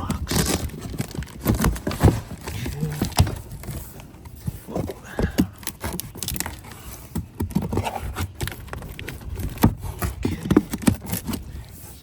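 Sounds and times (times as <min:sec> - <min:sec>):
cardboard box knocks and rustles: 0:00.3 - 0:06.5, 0:07.1 - 0:11.4.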